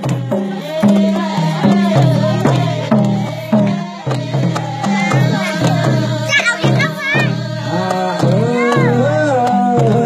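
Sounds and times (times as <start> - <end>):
deep drum beat: 0.0 - 10.0
voices singing: 0.0 - 10.0
held melody line: 0.5 - 10.0.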